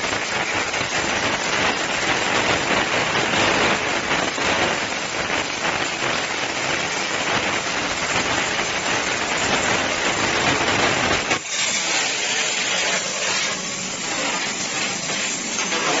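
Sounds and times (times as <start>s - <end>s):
plasma torch cutting steel hiss: 0.0s - 16.0s.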